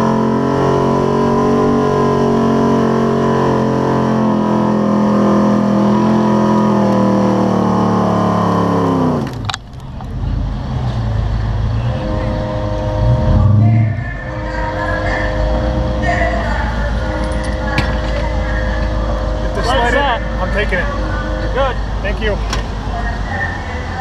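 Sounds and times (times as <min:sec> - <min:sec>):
truck engine running at high revs: 0:00.0 - 0:24.0.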